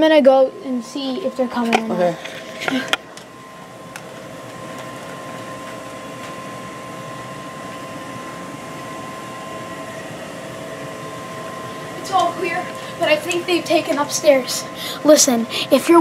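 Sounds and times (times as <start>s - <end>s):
constant pitched tones: 0.0s - 16.0s
mechanical hum and hiss: 0.0s - 16.0s.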